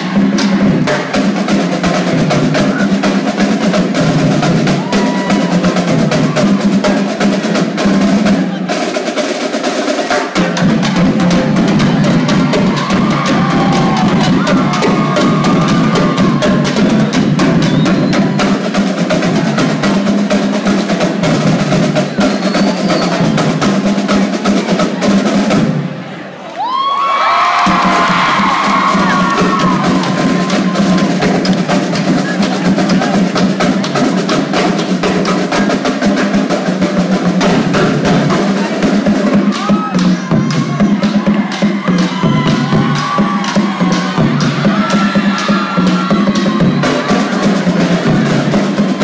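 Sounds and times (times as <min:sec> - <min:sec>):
marching drumline playing: 0:00.0 - 0:26.0, 0:27.2 - 0:49.0.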